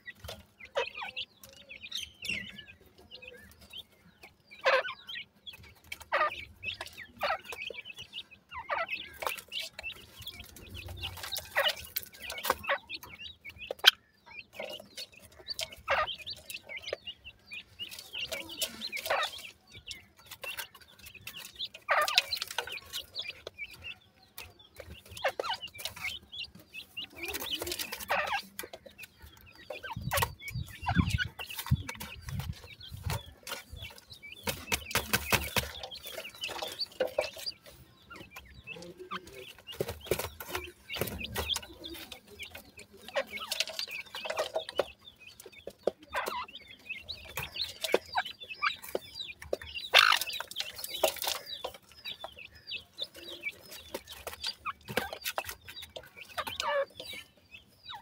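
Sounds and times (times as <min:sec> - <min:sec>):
beaks and feet clicking in dirt: 0:00.0 - 0:58.0
chicks peeping and clucking: 0:00.0 - 0:58.0.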